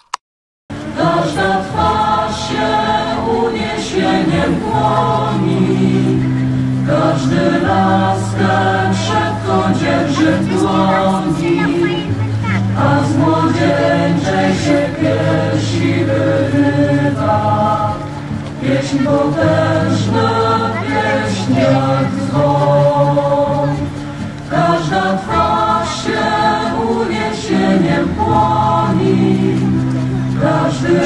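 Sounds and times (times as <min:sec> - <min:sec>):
choir singing held chords: 0:00.7 - 0:31.0.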